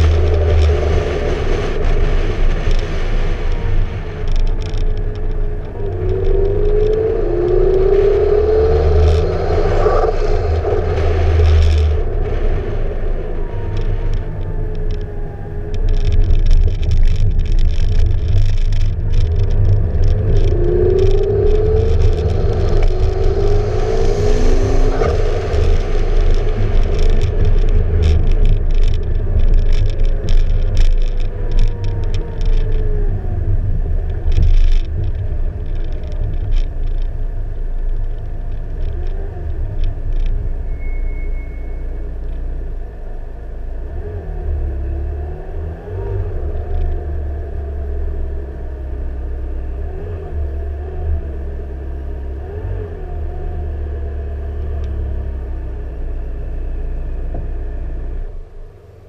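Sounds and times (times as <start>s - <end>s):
car engine revving through gears: 0.0s - 58.7s
wind rumble on microphone: 0.0s - 59.0s.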